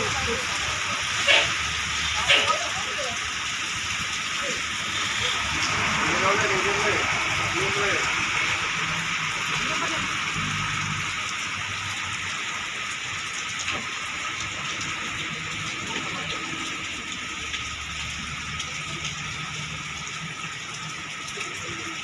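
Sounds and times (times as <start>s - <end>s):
heavy rain on flooded road: 0.0s - 22.0s.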